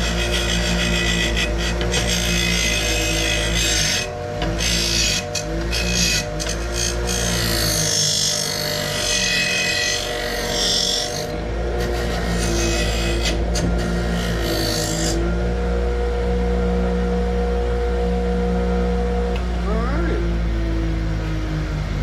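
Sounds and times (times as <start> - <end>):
bench grinder motor hum: 0.0 - 22.0.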